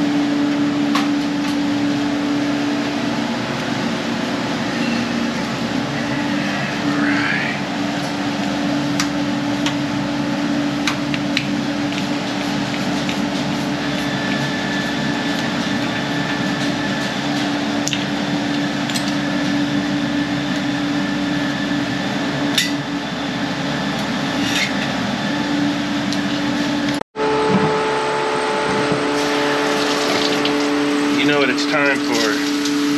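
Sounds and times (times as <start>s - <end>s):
motor humming: 0.0s - 32.9s.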